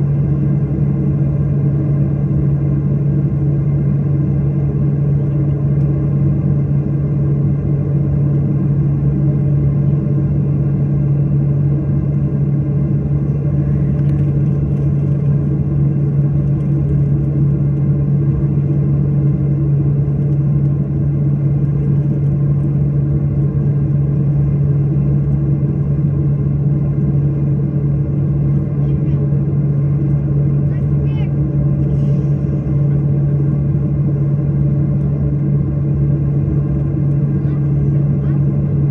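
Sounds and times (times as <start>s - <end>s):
jet engine cabin drone: 0.0s - 38.9s.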